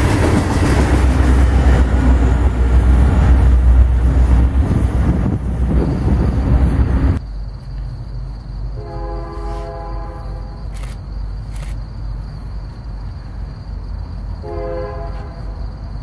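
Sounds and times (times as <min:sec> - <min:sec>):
diesel locomotive engine rumbling: 0:00.0 - 0:16.0
train wheels on rail: 0:00.0 - 0:16.0.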